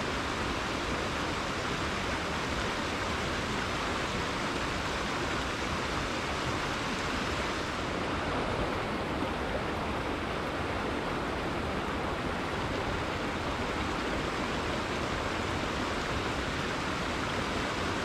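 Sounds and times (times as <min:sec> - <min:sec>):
river water rushing over rocks: 0:00.0 - 0:18.0.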